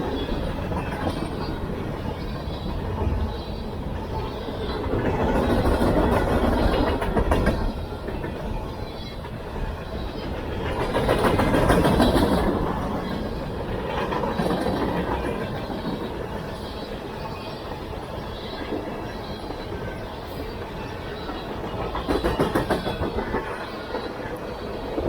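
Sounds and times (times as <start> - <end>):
clickety-clack over rail joints: 0.0 - 25.0
freight train wheels rumbling: 0.0 - 25.0.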